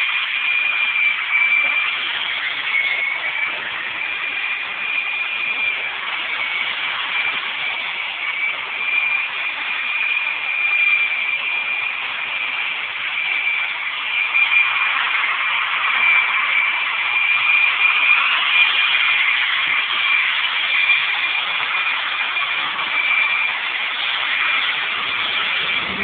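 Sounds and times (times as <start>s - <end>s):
angle grinder on glass: 0.0s - 26.0s.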